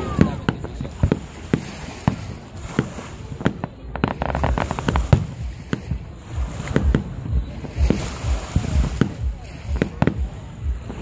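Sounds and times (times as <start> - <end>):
fireworks bursting with bangs: 0.0 - 11.0
fireworks crackling: 0.0 - 11.0.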